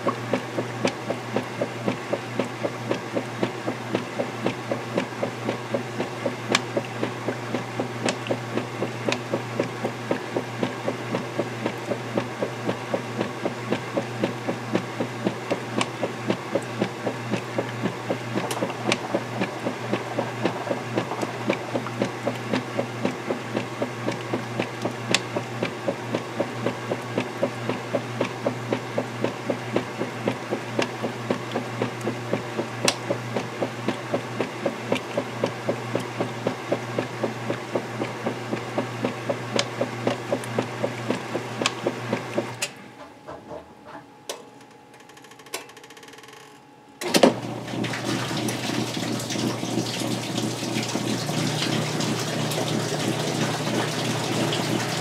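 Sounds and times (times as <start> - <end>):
washing machine agitating water: 0.0 - 44.0, 47.0 - 55.0.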